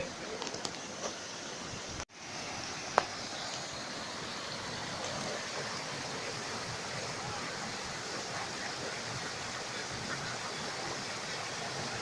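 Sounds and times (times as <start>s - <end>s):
stream running over stones: 0.0s - 12.0s.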